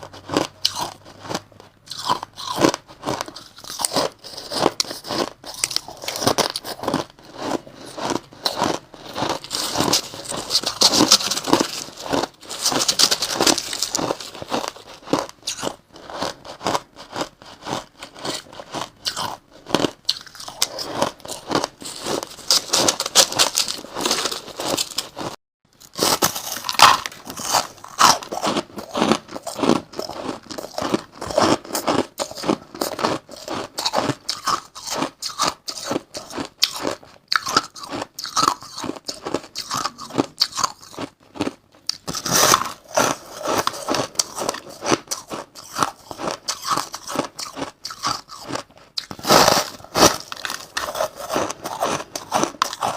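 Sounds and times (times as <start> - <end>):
crushed ice being chewed: 0.0 - 52.9.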